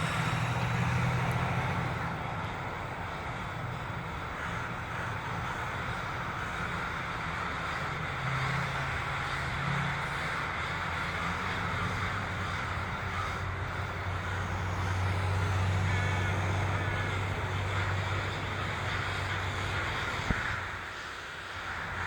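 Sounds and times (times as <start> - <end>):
low vehicle rumble: 0.0 - 20.9
crows cawing: 0.0 - 22.0.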